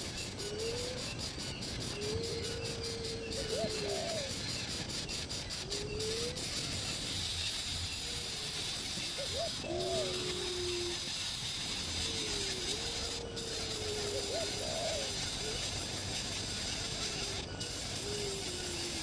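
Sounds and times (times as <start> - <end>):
bird whistling calls: 0.0 - 19.0.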